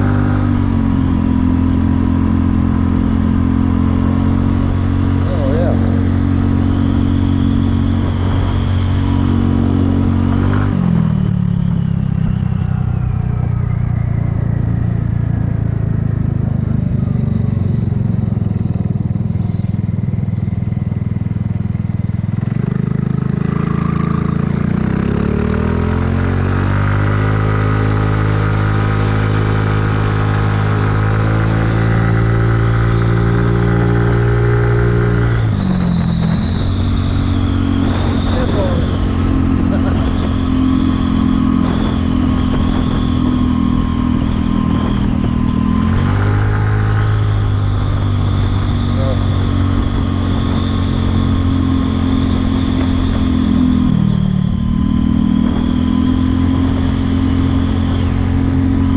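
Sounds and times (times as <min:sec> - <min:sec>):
scooter engine running: 0:00.0 - 0:58.9.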